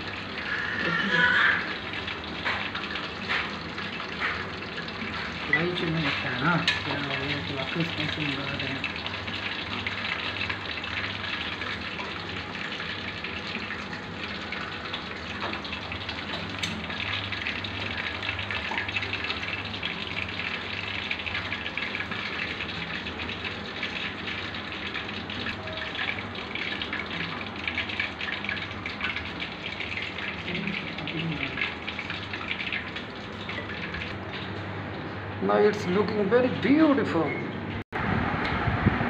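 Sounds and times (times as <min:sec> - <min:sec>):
chicken deep-frying in oil: 0:00.0 - 0:37.4.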